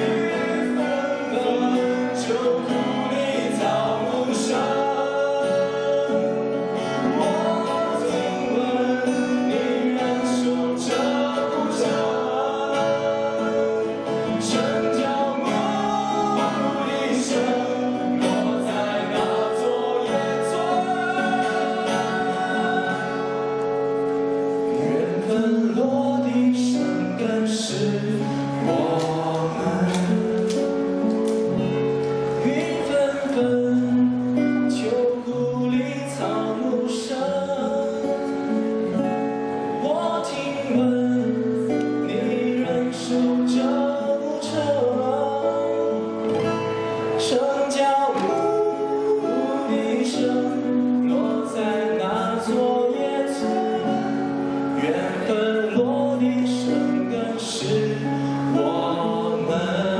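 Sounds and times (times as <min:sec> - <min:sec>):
men singing pop ballad: 0:00.0 - 0:23.5, 0:24.7 - 0:31.6, 0:32.3 - 0:38.7, 0:39.8 - 0:59.9
strummed acoustic guitar: 0:00.0 - 0:59.9.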